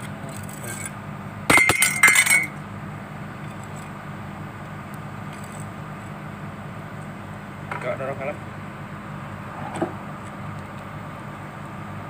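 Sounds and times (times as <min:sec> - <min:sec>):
excavator engine idling: 0:00.0 - 0:12.0.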